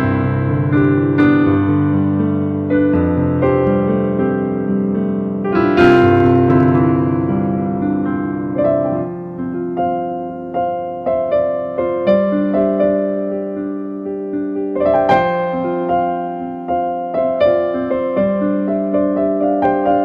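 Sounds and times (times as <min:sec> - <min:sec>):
slow keyboard chords: 0:00.0 - 0:18.1.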